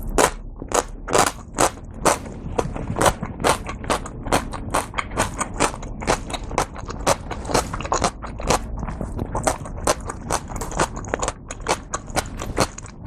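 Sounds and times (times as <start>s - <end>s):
chewing with moist clicks: 0.1s - 13.0s.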